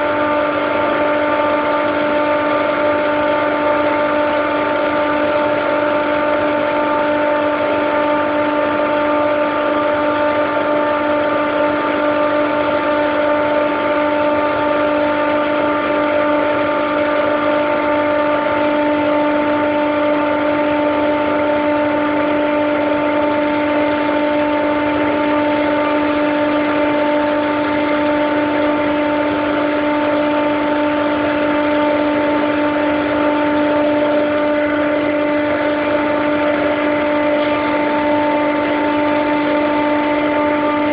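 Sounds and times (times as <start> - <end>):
chiller compressor humming with whine: 0.0 - 40.9.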